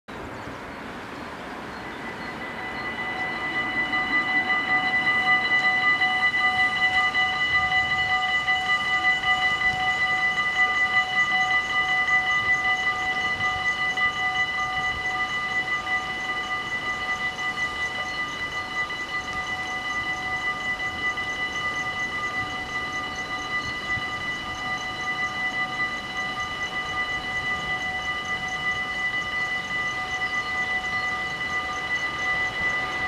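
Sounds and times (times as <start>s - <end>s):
level crossing warning bells: 1.2s - 33.0s.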